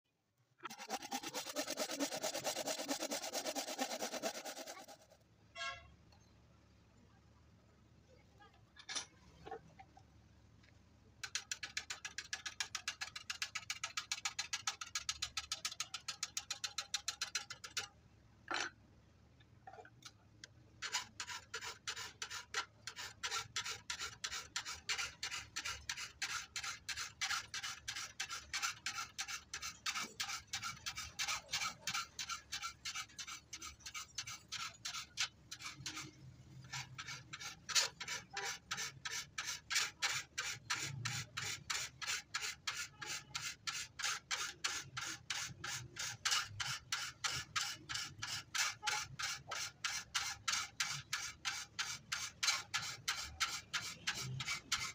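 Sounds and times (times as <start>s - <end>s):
file rasping on saw teeth: 0.6s - 5.2s, 11.2s - 17.9s, 20.8s - 54.9s.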